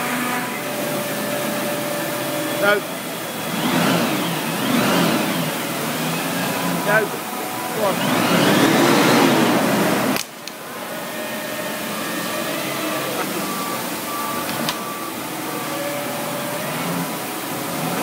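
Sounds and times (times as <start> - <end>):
forklift truck running: 0.0 - 18.0.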